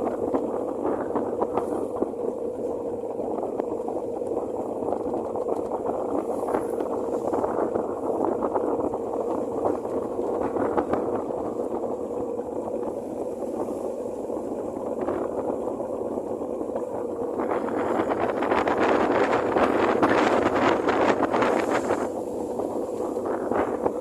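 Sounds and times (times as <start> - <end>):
boat engine hum: 0.0 - 24.0
rushing water: 0.0 - 24.0
wind: 0.0 - 24.0.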